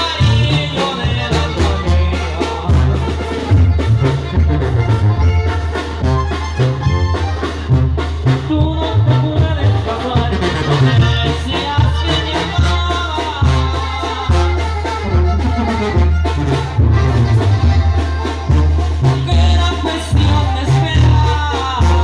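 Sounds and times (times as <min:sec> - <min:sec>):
brass and woodwinds: 0:00.0 - 0:22.0
steady drum beat: 0:00.0 - 0:22.0
stepping bass line: 0:00.0 - 0:22.0.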